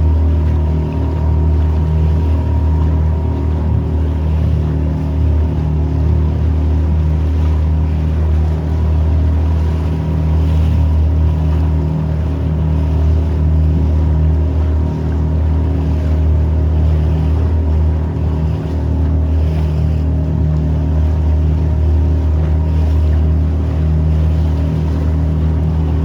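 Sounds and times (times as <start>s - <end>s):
motorboat engine droning: 0.0s - 26.0s
rushing water: 0.0s - 26.0s
wind: 0.0s - 26.0s.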